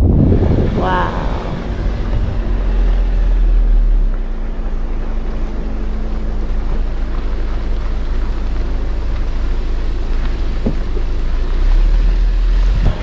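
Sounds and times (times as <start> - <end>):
wind buffeting microphone: 0.0 - 11.3, 12.6 - 13.0
engine and tyre rumble: 0.0 - 13.0.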